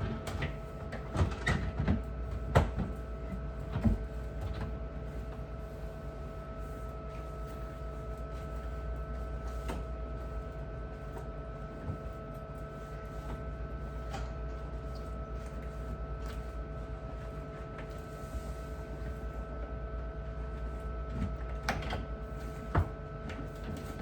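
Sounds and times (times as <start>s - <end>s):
machine hum with constant tones: 0.0s - 24.0s.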